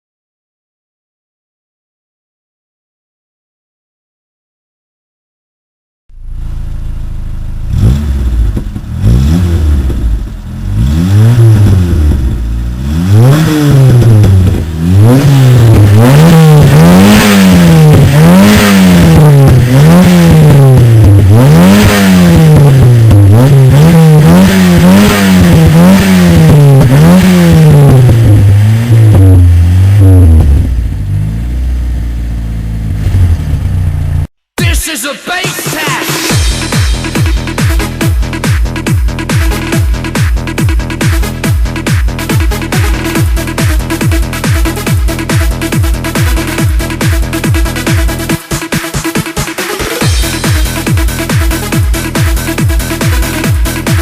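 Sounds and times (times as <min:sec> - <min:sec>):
car engine revving: 0:06.1 - 0:34.3, 0:36.2 - 0:54.0.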